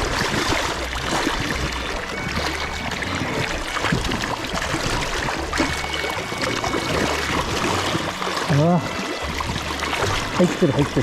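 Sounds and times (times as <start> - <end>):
stream rushing over rocks: 0.0 - 11.0
water splashing: 0.0 - 11.0.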